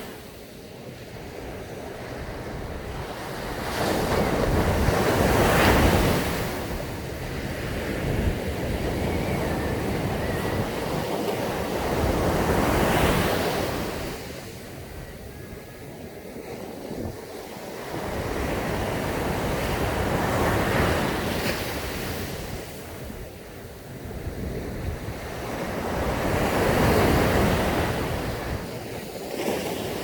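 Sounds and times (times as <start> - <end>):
wind rumbling on microphone: 0.0 - 30.0
ocean waves crashing: 2.0 - 23.0, 24.8 - 30.0.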